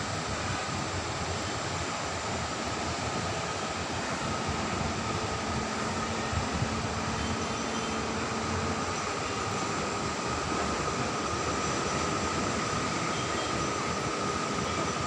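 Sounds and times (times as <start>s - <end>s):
rushing of sea and wind: 0.0s - 15.0s.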